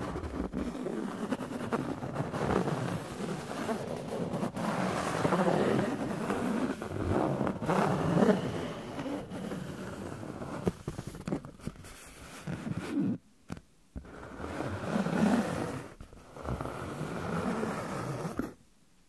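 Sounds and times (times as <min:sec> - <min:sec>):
objects scratching and rubbing: 0:00.0 - 0:18.6.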